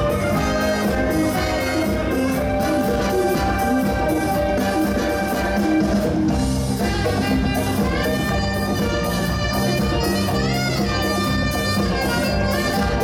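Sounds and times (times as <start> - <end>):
live disco dance music: 0.0 - 13.0.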